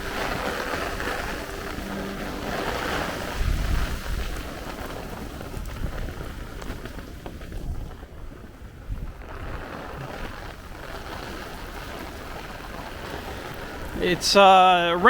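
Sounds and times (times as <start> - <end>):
gusty wind on microphone: 0.0 - 15.0
heavy rain falling: 0.0 - 15.0.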